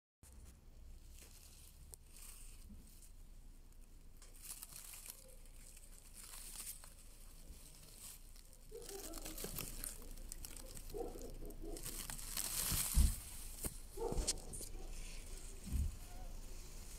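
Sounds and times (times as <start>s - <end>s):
leaves rustling and crinkling: 0.3s - 16.9s.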